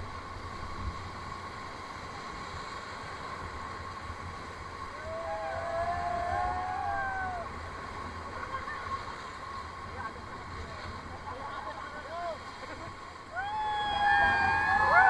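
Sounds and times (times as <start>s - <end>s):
rapids rushing water: 0.0s - 15.0s.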